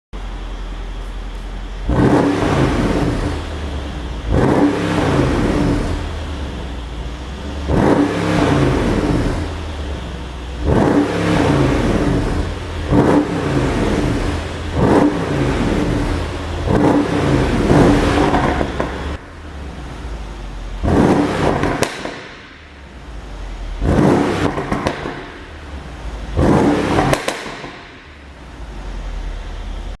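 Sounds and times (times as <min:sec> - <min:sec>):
car engine revving: 0:00.2 - 0:30.0
exhaust popping and crackling: 0:00.2 - 0:30.0.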